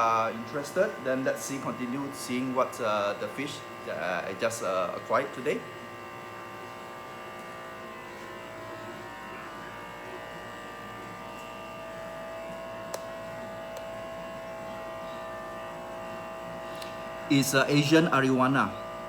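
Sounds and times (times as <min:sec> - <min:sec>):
aquarium air pump buzzing: 0:00.0 - 0:19.0.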